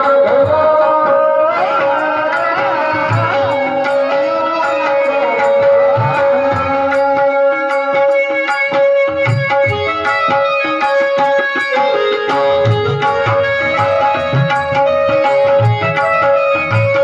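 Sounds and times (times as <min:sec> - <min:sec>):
melody of long held notes: 0:00.0 - 0:17.0
tabla playing a rhythm: 0:00.0 - 0:17.0.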